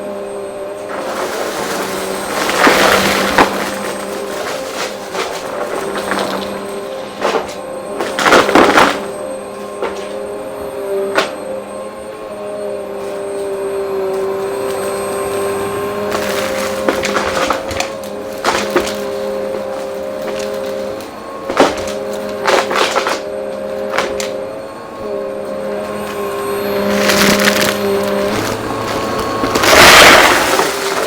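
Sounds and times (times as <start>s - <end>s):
vacuum cleaner running: 0.0s - 31.0s
debris crunching and rattling: 0.6s - 11.7s, 12.8s - 31.0s.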